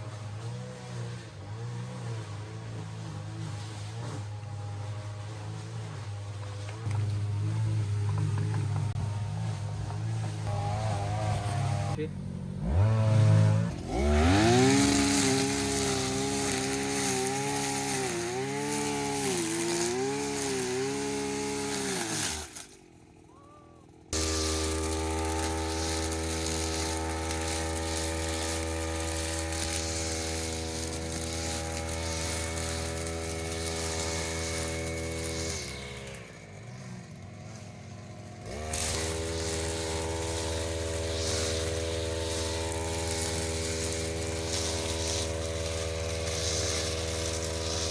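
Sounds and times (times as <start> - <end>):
brush cutter engine revving: 0.0 - 47.9.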